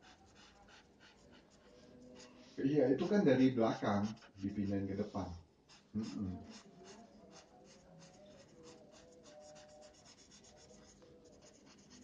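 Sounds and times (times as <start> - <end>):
marker scratching on paper: 0.0 - 12.0.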